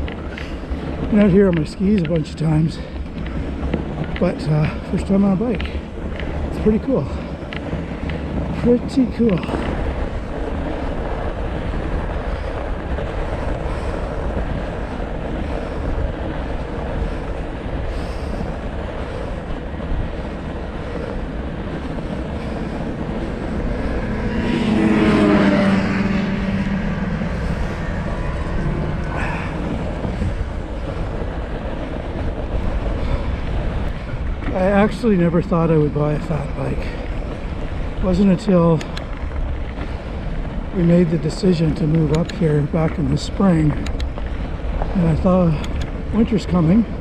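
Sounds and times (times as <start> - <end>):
engine-like drone: 0.0 - 47.0
wind buffeting microphone: 0.0 - 47.0.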